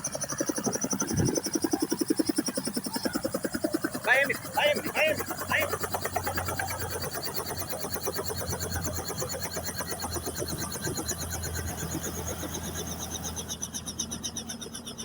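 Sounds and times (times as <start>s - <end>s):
helicopter rotor pulsing: 0.0s - 15.0s.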